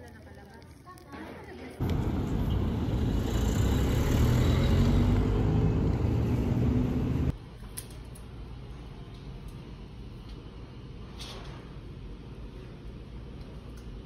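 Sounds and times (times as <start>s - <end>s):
low rumble of street noise: 0.0s - 14.0s.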